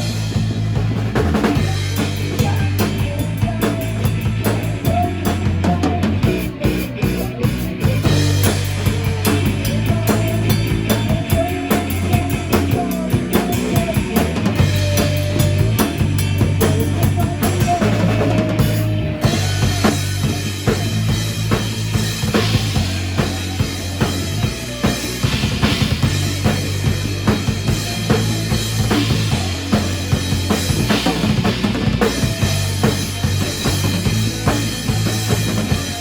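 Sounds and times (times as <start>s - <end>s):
band music: 0.0s - 36.0s
bass notes: 0.0s - 36.0s
drum kit beat: 0.0s - 36.0s.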